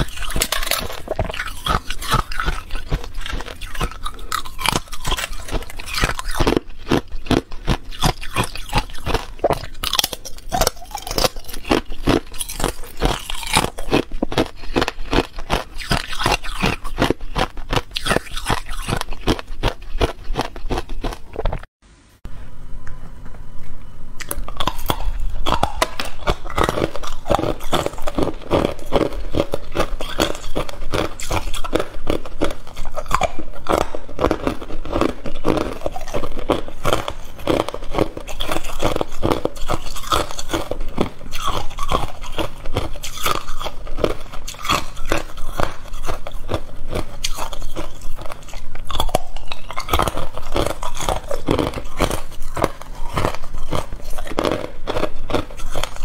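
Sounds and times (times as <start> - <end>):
ice being chewed: 0.0 - 21.7, 24.2 - 56.0.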